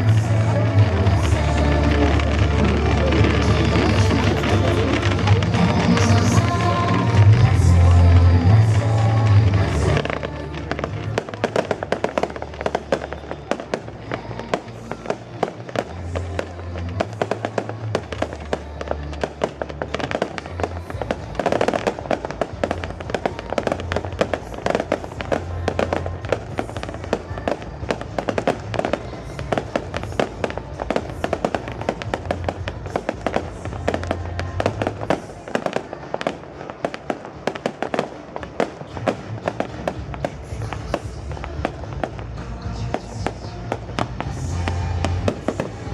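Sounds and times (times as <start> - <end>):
fireworks crackling and banging: 0.0 - 45.9.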